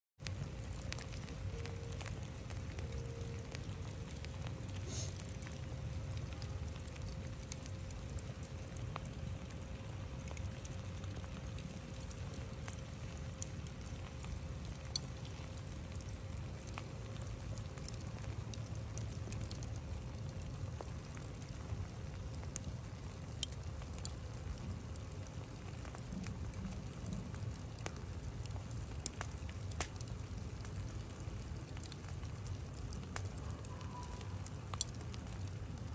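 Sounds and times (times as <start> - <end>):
charcoal embers crackling: 0.2 - 35.9.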